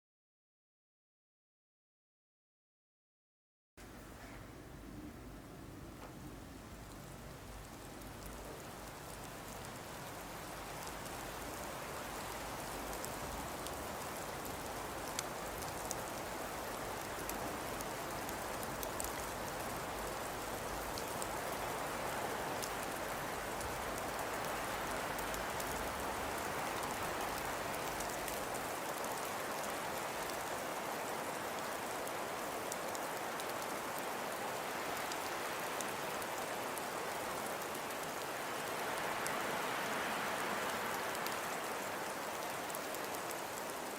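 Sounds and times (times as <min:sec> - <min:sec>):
steady rain falling: 0:03.8 - 0:43.9.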